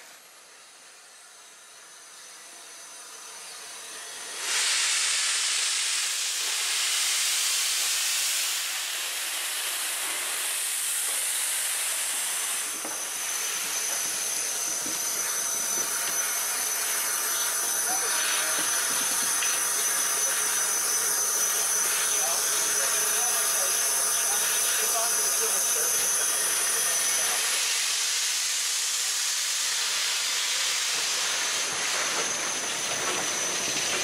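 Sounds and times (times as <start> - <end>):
steam locomotive hissing steam: 0.0 - 34.0.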